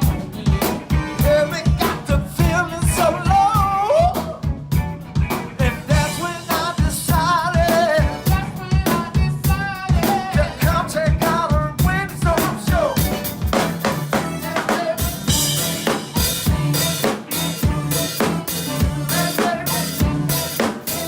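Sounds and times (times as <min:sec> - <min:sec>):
live band playing: 0:00.0 - 0:21.0
wavering pitched lead line: 0:00.0 - 0:21.0.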